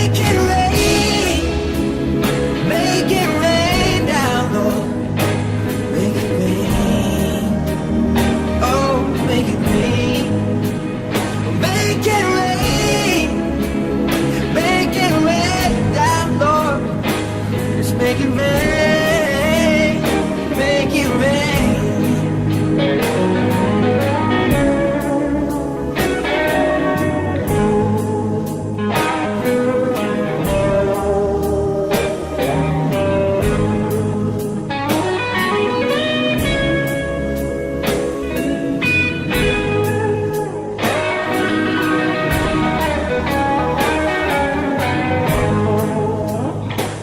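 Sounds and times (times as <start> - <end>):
steady drum beat: 0.0 - 29.6, 30.4 - 47.0
bass: 0.0 - 47.0
lead guitar solo: 0.0 - 47.0.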